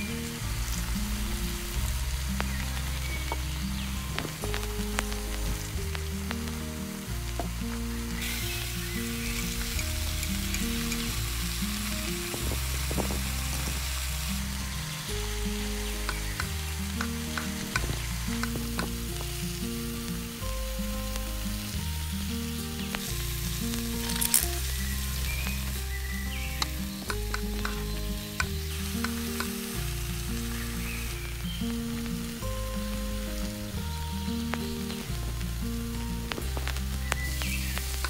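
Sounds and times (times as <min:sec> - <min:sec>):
background music: 0:00.0 - 0:38.0
food sizzling in hot oil: 0:00.0 - 0:38.0.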